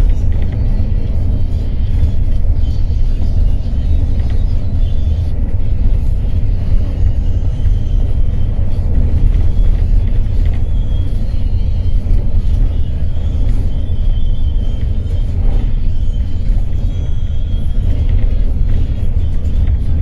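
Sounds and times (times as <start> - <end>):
bus engine rumble from inside: 0.0 - 20.0
road noise: 0.0 - 20.0.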